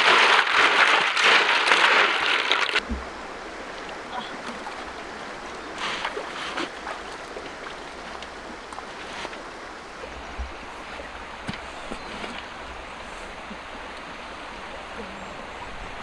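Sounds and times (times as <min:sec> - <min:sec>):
shallow river flowing: 0:00.0 - 0:16.0
water sloshing: 0:00.0 - 0:16.0
water splashes: 0:00.0 - 0:16.0.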